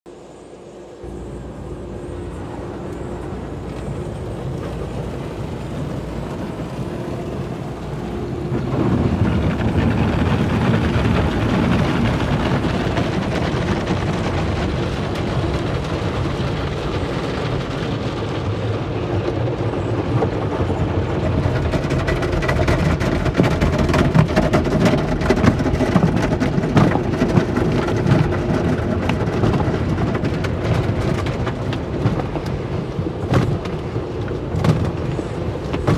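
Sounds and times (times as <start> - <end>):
water spraying on car: 1.1 - 35.9.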